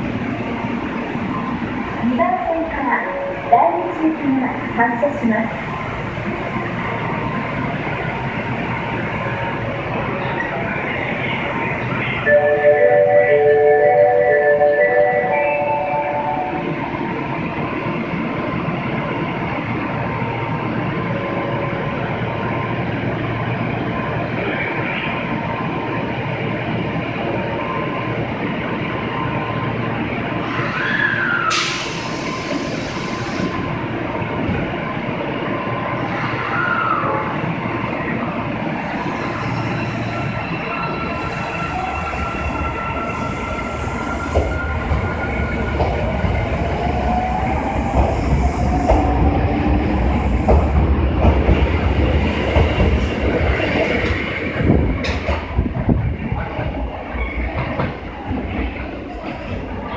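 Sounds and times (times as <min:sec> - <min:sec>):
subway train running: 0:00.0 - 0:59.9.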